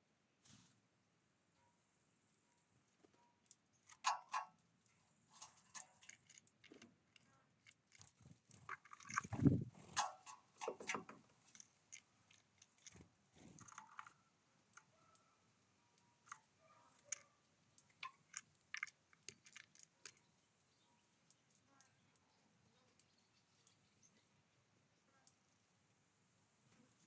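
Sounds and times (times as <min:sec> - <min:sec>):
birds pecking and cracking seeds: 0:02.8 - 0:27.0.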